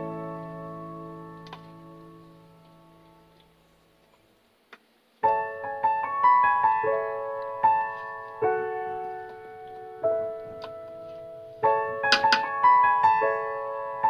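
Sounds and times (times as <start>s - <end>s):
slow piano music: 0.0s - 3.9s, 5.2s - 14.0s.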